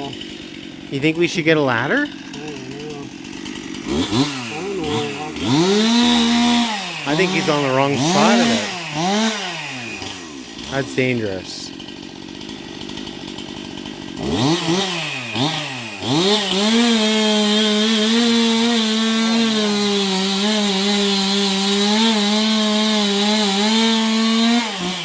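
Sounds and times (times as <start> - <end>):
chainsaw revving and cutting wood: 0.0 - 25.0.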